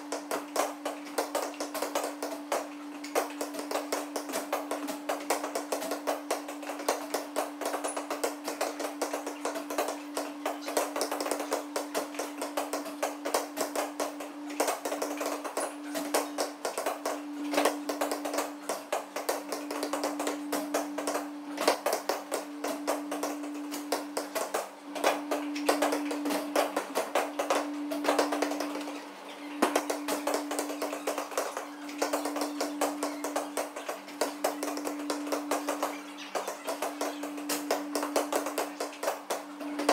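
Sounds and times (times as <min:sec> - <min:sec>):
irregular tapping and clicking: 0:00.0 - 0:39.9
steady low hum: 0:00.0 - 0:39.9.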